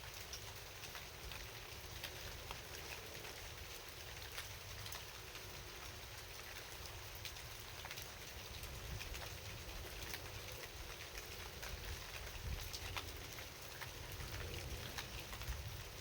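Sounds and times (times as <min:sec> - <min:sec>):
raindrops ticking: 0:00.0 - 0:16.0
steady rain hissing: 0:00.0 - 0:16.0.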